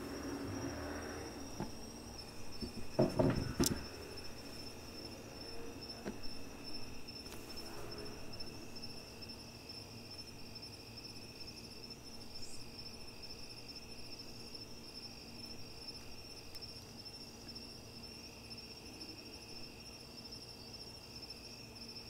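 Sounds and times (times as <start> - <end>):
faint low hum: 0.0 - 22.0
high-pitched insect trill: 0.0 - 22.0
lower insect trill: 0.0 - 22.0.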